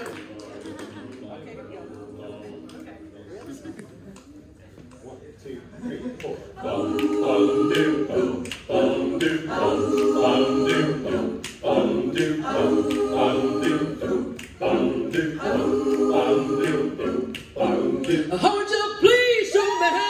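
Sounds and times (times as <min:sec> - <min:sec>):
a cappella group singing: 0:00.0 - 0:03.0, 0:06.0 - 0:20.0.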